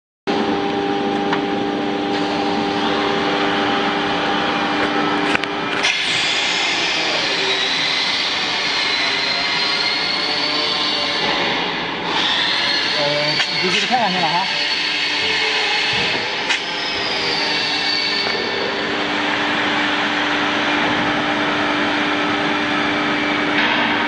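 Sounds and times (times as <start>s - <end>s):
machine humming and whirring: 0.3s - 24.0s.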